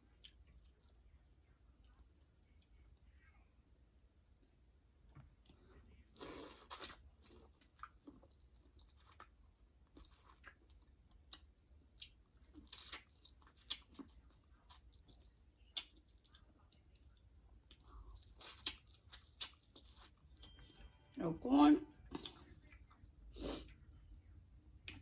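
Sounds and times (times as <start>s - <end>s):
person chewing food: 0.0s - 3.2s, 5.1s - 21.0s, 22.0s - 25.0s.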